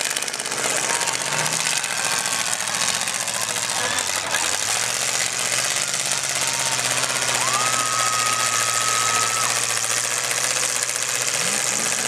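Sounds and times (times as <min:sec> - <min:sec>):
car engines running rough: 0:00.0 - 0:12.0.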